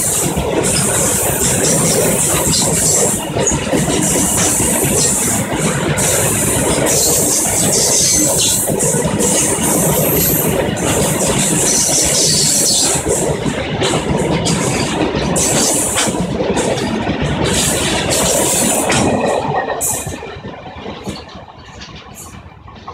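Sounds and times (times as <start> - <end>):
train wagons clanking: 0.0 - 22.9
train wheels rumbling on rails: 0.0 - 22.9.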